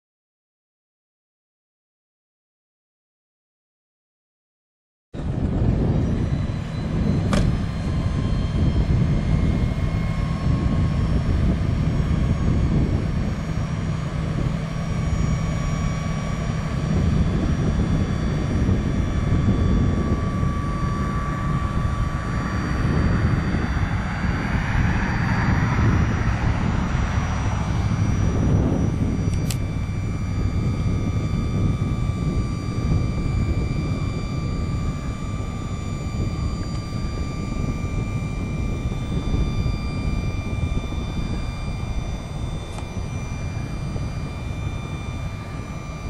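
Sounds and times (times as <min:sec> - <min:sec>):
hydraulic hoist drone and whine: 0:05.2 - 0:46.0.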